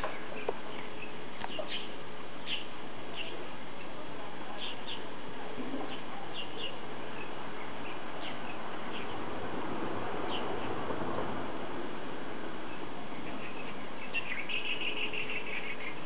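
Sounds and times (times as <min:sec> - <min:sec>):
small birds chirping: 0:00.0 - 0:09.4, 0:10.2 - 0:10.8, 0:12.6 - 0:16.0
steady background hiss: 0:00.0 - 0:16.0.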